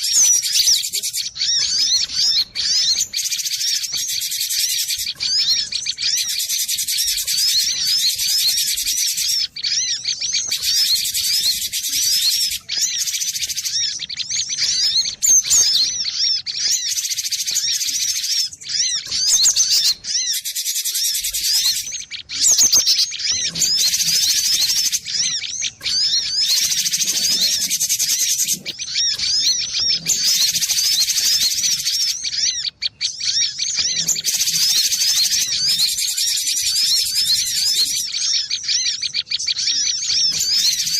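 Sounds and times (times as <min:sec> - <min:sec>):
bird singing high chirps: 0:00.0 - 0:40.9.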